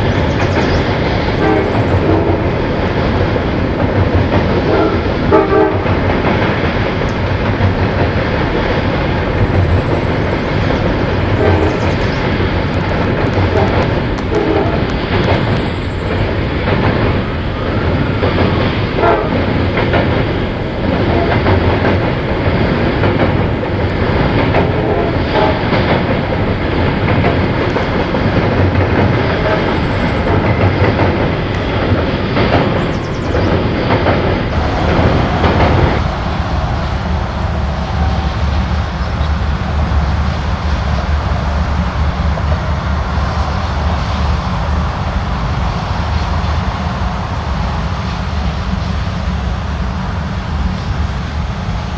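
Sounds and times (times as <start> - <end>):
low train rumble: 0.0 - 51.9
train wheels clattering over rails: 0.0 - 51.9.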